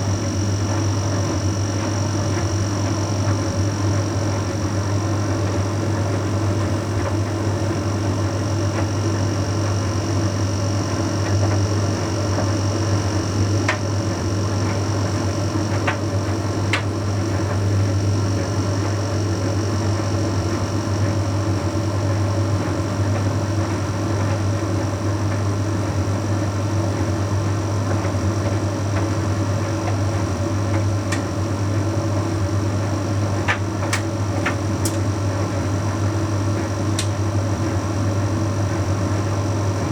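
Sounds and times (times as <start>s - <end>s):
tumble dryer humming: 0.0s - 39.9s.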